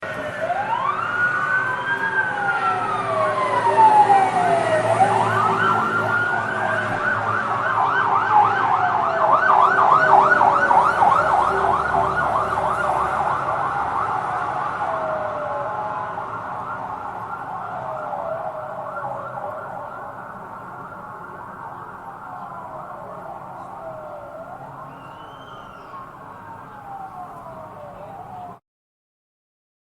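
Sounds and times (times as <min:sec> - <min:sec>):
fire truck siren wailing: 0:00.0 - 0:28.6
low vehicle rumble: 0:00.0 - 0:28.6
siren fast yelp: 0:00.3 - 0:28.6.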